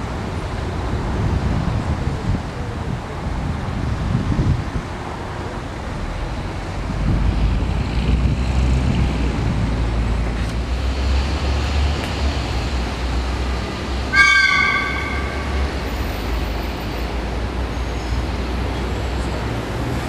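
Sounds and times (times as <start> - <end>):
city street traffic: 0.0 - 20.0
heavy vehicle rumble: 0.0 - 20.0.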